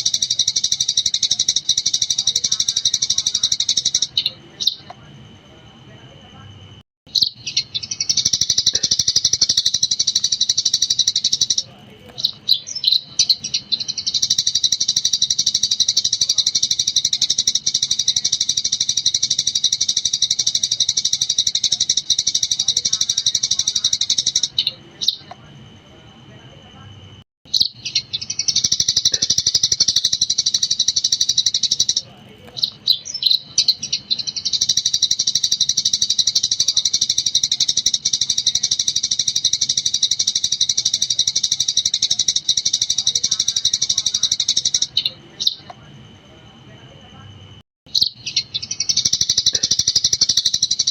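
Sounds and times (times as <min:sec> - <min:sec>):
sparrow chirping rapidly: 0:00.0 - 0:04.9, 0:07.1 - 0:25.4, 0:27.5 - 0:45.7, 0:47.9 - 0:50.9.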